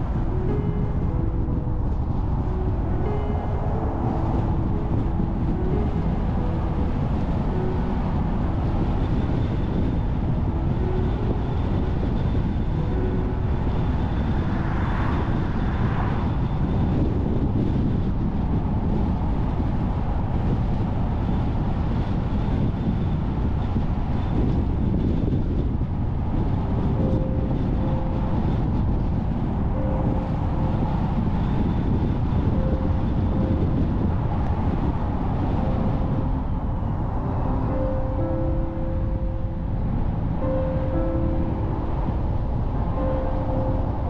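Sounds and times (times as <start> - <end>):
car road noise: 0.0 - 44.0
faint held music notes: 0.0 - 44.0.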